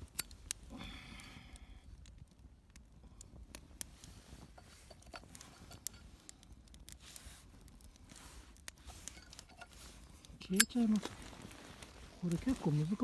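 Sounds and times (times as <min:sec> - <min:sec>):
small wood fire crackling: 0:00.0 - 0:13.0.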